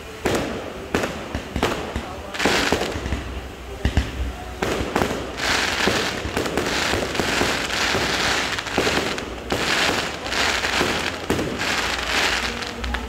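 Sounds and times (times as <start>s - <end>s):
fireworks crackling hiss: 0.0s - 13.0s
fireworks pops and bangs: 0.2s - 13.0s.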